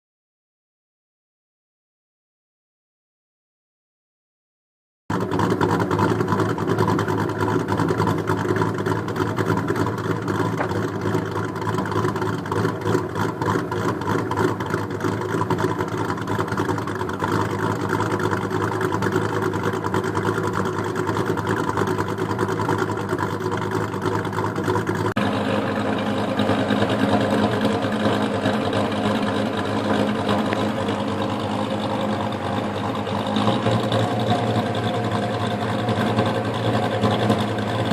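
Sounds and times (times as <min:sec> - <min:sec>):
car exhaust idling: 0:05.1 - 0:37.9.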